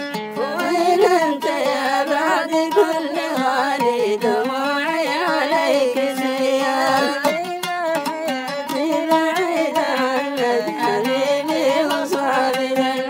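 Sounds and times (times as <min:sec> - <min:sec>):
plucked string accompaniment: 0:00.0 - 0:13.0
person singing ornamented melody: 0:00.3 - 0:13.0.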